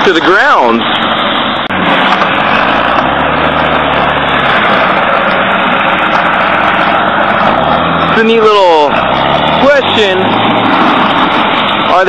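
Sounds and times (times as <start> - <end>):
tree shaker machine running: 0.4 - 12.0
deeper engine note: 1.4 - 12.0.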